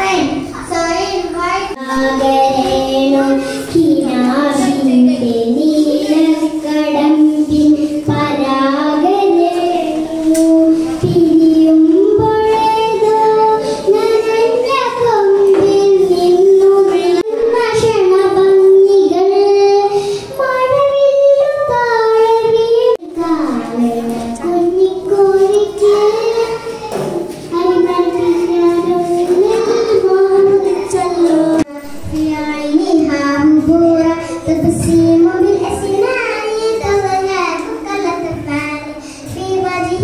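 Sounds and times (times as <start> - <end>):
girl singing into a microphone: 0.0 - 40.0.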